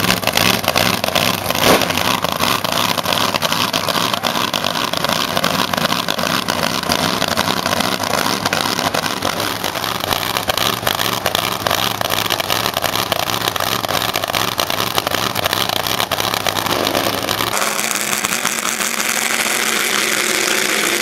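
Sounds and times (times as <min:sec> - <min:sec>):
drag racing car engine roaring: 0:00.0 - 0:21.0.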